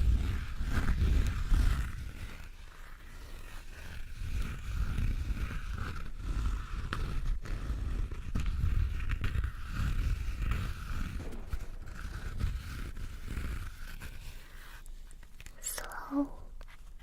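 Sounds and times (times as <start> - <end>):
scratchy rubbing with dull rumble: 0.0 - 17.0.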